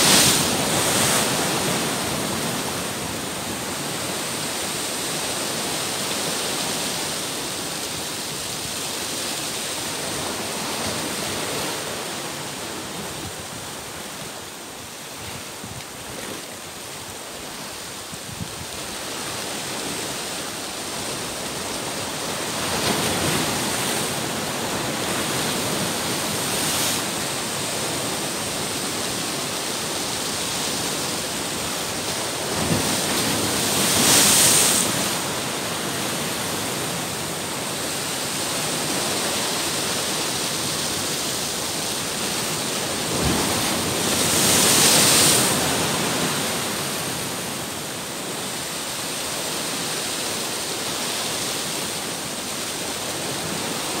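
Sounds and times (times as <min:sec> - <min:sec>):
sea waves breaking on rocks: 0:00.0 - 0:14.3, 0:15.1 - 0:54.0.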